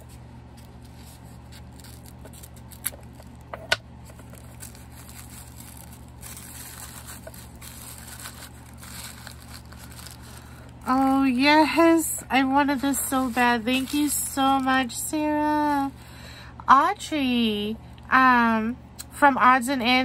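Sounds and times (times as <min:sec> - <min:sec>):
wrapping rustling: 0:00.0 - 0:16.0.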